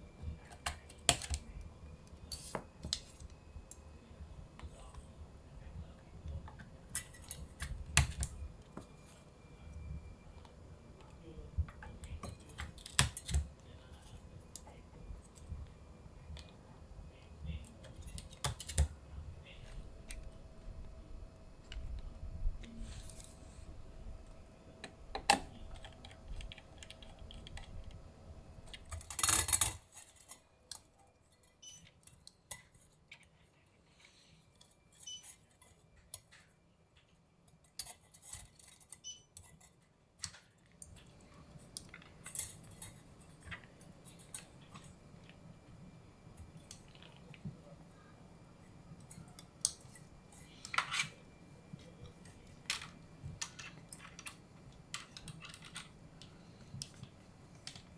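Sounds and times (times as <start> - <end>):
computer hardware clicks and clinks: 0.1 - 3.9, 6.2 - 16.6, 17.2 - 19.0, 24.2 - 33.2, 34.5 - 36.5, 37.5 - 57.9.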